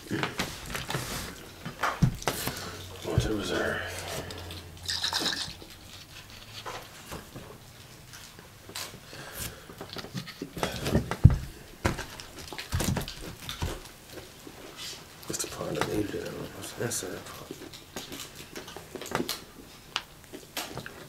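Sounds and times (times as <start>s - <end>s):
fried chicken crackling and chewing: 0.0s - 11.0s, 11.6s - 21.0s.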